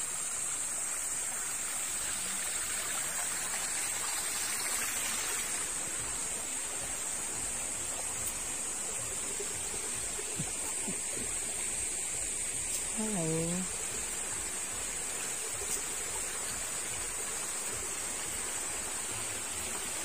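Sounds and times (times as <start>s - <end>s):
waterfall rushing: 0.0s - 12.9s, 13.7s - 20.0s.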